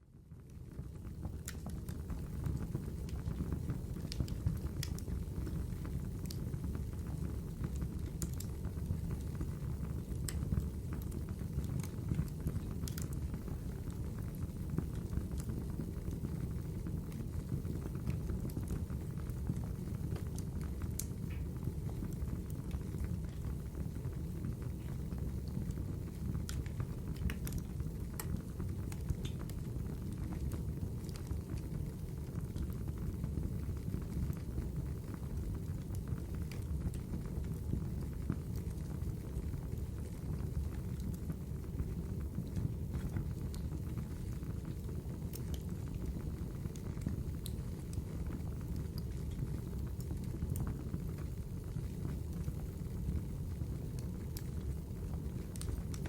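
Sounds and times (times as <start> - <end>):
low rumble of flames: 0.0 - 56.0
logs crackling and popping: 1.2 - 56.0.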